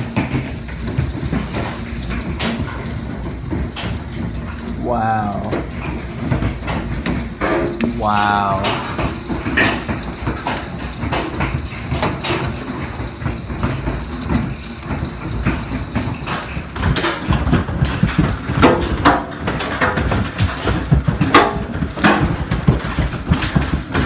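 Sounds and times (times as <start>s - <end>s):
hailstones pelting: 0.0s - 24.0s.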